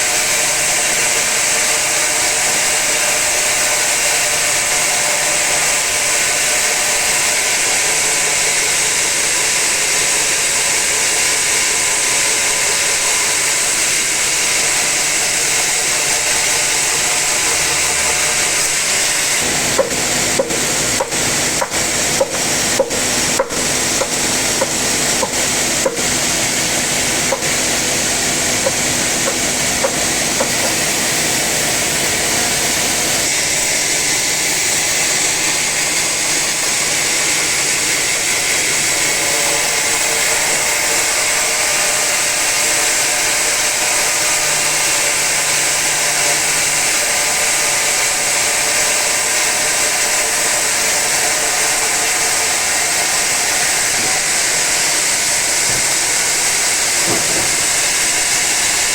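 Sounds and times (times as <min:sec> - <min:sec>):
saw blade whining through log: 0:00.0 - 0:58.9.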